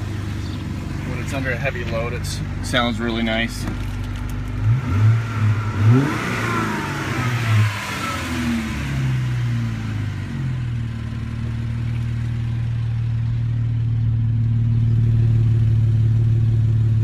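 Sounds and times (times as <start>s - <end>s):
car engine revving: 0.0s - 16.8s
car engine idling: 0.0s - 17.0s.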